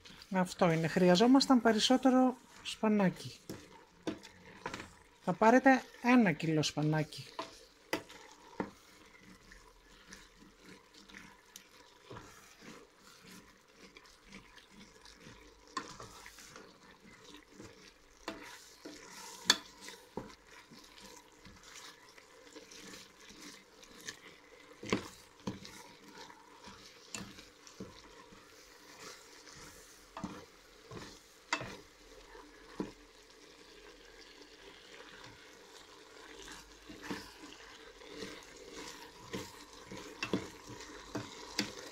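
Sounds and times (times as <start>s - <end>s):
faint sizzle: 0.0s - 41.9s
wooden spoon stirring in pot: 0.0s - 41.9s.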